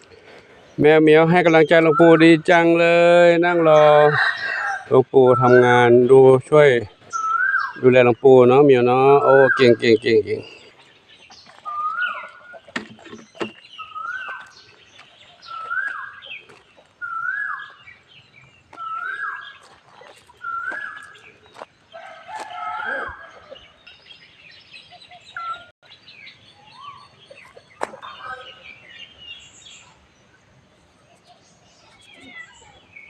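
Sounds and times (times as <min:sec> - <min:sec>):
bird calling: 0:00.0 - 0:33.0.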